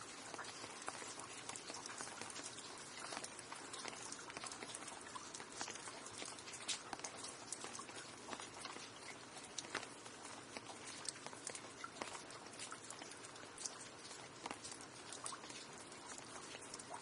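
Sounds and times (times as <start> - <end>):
raindrops pattering on hard surface: 0.0 - 17.0.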